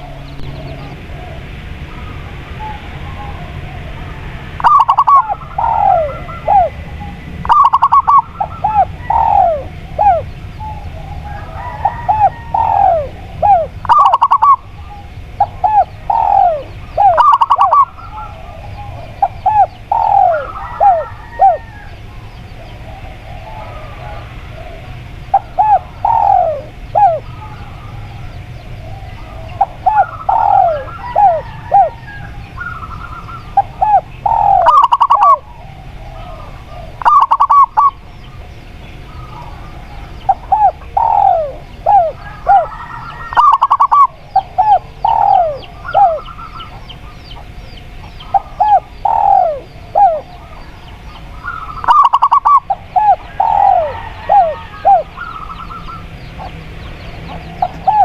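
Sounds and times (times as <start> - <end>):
doves cooing: 0.0 - 58.0
rapid rattling trills: 0.0 - 58.0
small birds chirping: 0.0 - 58.0.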